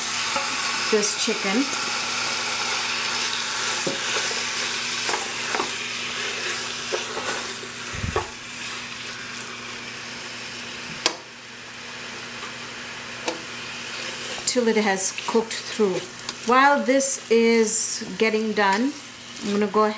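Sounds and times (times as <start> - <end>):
chicken sizzling in hot oil: 0.0 - 19.9.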